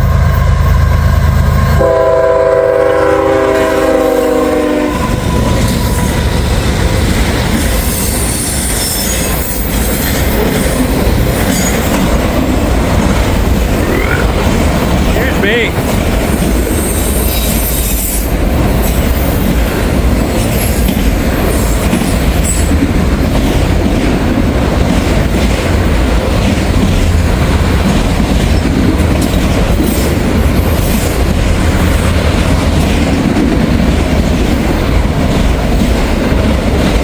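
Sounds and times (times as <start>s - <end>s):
freight train rolling past: 0.0s - 37.0s
steel wheels clacking on rail: 5.0s - 37.0s.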